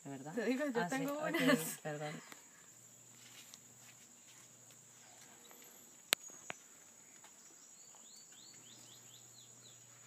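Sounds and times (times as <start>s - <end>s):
insect drone: 0.0s - 10.0s.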